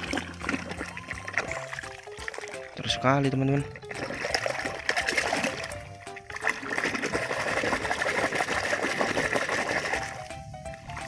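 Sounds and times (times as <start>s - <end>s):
water splashing and churning: 0.0s - 11.0s.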